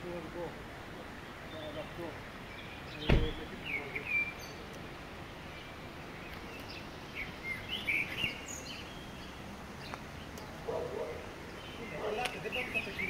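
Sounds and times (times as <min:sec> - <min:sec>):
background hiss: 0:00.0 - 0:13.0
songbird chirping: 0:00.0 - 0:13.0.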